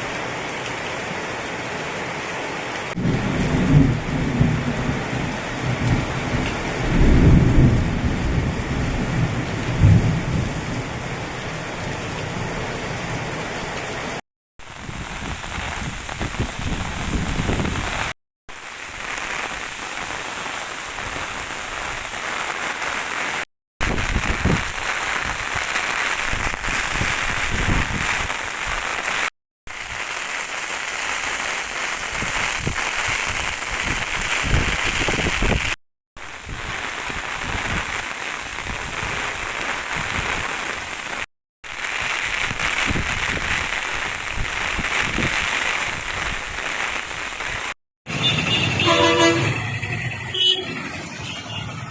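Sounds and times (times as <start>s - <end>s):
heavy rain pouring: 0.0s - 47.8s.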